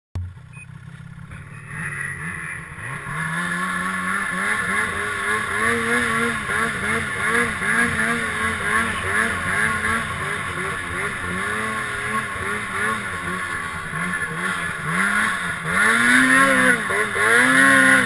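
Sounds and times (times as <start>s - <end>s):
snowmobile engine: 0.2s - 18.0s.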